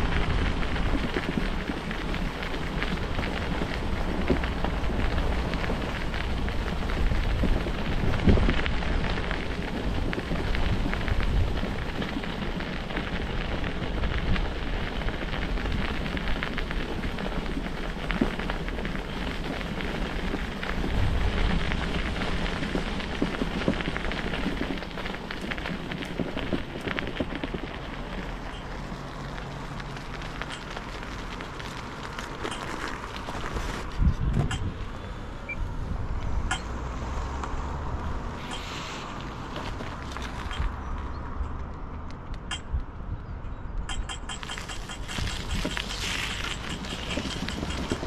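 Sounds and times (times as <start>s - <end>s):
bicycle tyres crackling on asphalt: 0.0s - 48.0s
wind rumbling on microphone: 0.0s - 48.0s.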